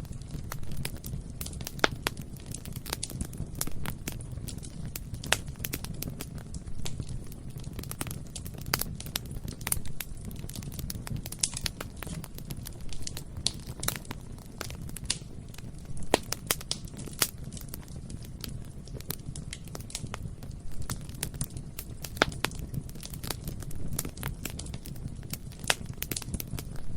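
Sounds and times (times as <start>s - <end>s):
burning wood snapping and popping: 0.0s - 26.9s
fire crackling: 0.0s - 26.9s
low rumble of flames: 0.0s - 26.9s.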